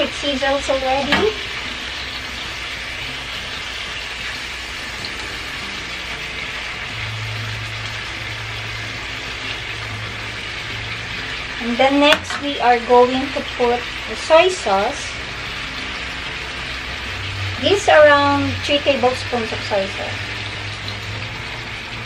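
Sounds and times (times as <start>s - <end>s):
chicken and garlic sizzling in oil: 0.0s - 22.0s.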